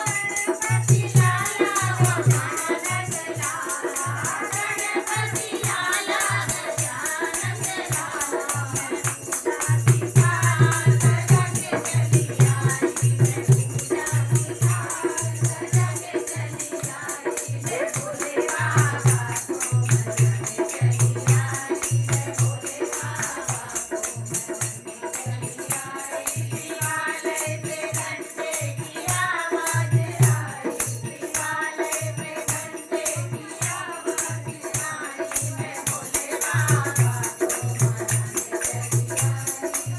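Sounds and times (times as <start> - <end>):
drum beat: 0.0 - 31.6, 32.2 - 39.9
shaker rattle: 0.0 - 39.9.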